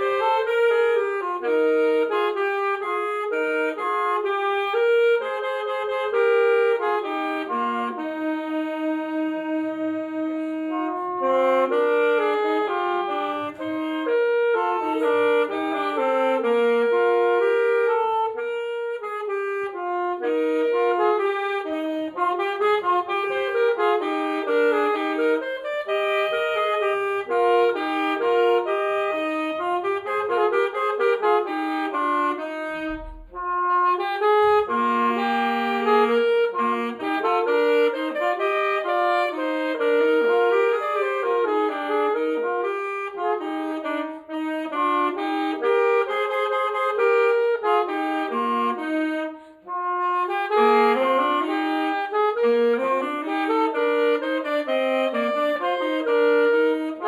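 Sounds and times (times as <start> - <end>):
saxophone duet: 0.0 - 57.0.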